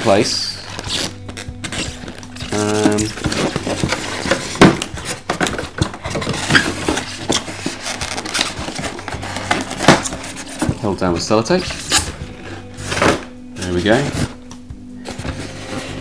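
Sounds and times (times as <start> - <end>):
plastic packing cover crackling: 0.6 - 14.4.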